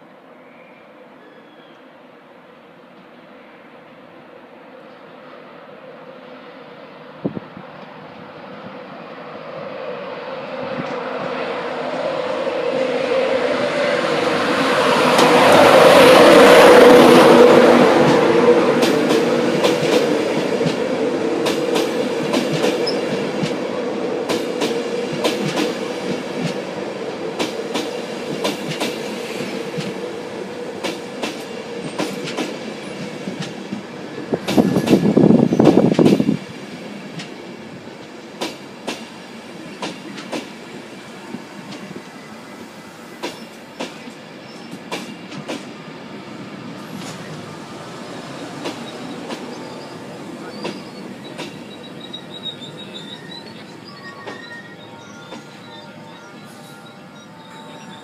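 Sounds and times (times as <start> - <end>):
train rushing past: 2.7 - 58.0.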